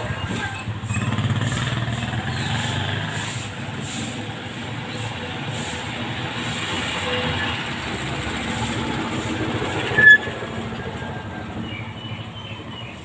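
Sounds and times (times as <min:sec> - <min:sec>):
passing vehicle rumble: 0:00.0 - 0:13.0.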